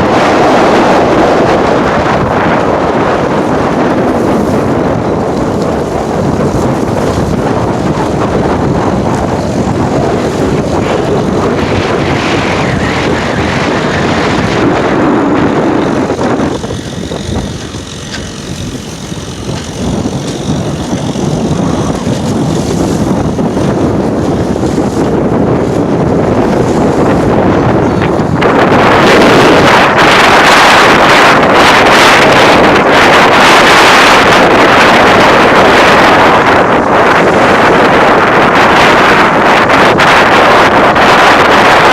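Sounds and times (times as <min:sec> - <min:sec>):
boat hitting waves: 0:00.0 - 0:41.9
outboard motor running: 0:00.0 - 0:41.9
wind buffeting microphone: 0:00.0 - 0:41.9.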